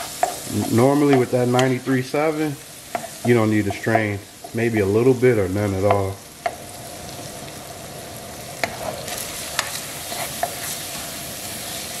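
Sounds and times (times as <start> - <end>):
ground beef sizzling in skillet: 0.0 - 12.0.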